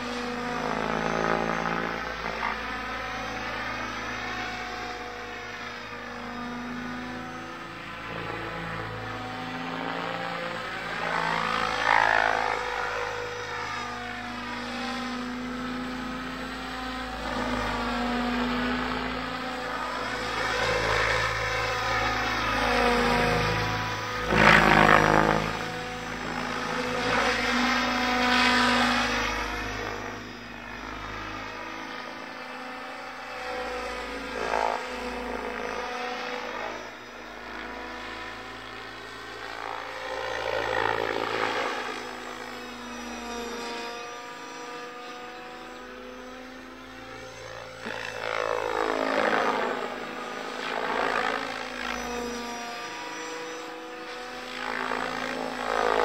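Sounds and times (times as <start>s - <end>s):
model helicopter rotor whine: 0.0s - 56.0s.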